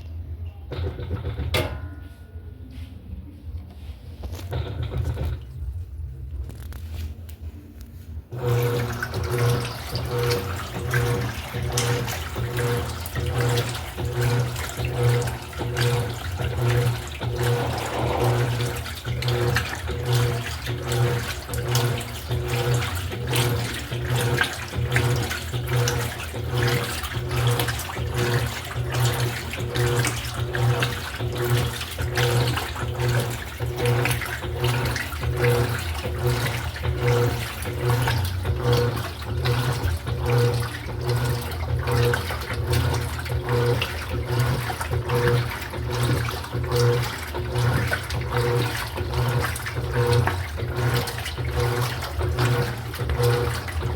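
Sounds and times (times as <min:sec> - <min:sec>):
washing machine motor hum: 0:00.0 - 0:53.9
water churning and sloshing: 0:08.3 - 0:53.9.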